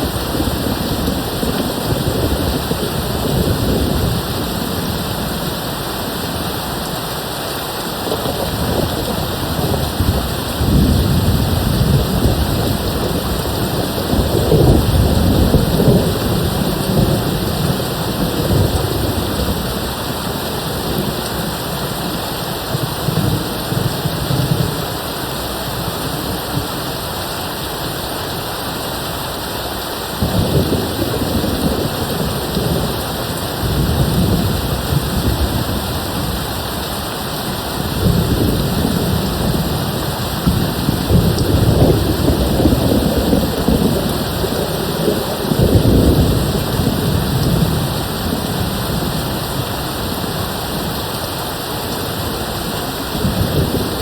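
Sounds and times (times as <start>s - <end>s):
rolling thunder: 0.0s - 5.9s, 8.0s - 26.8s, 30.2s - 51.0s, 53.0s - 54.0s
rain falling: 0.0s - 54.0s.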